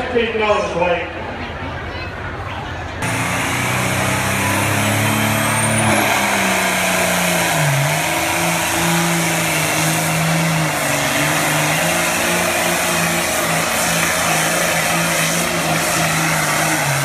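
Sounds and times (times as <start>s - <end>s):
diesel tractor at full throttle: 3.0s - 17.0s.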